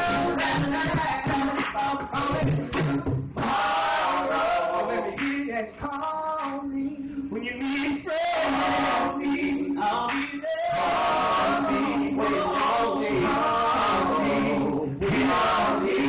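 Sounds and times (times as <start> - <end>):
male vocal group singing in harmony: 0.0 - 16.0.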